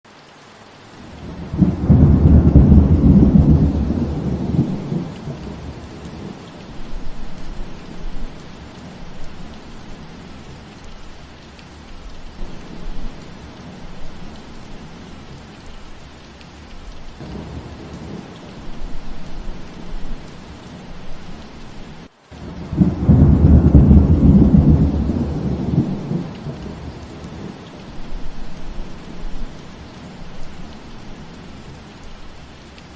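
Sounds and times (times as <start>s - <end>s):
steady rain falling: 0.0s - 32.9s
thunder rumbling: 1.0s - 11.0s, 12.2s - 32.3s.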